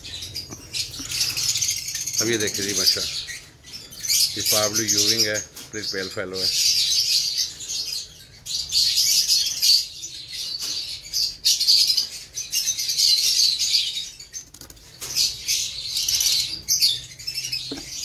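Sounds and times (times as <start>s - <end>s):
lovebirds chattering and chirping: 0.0s - 18.0s.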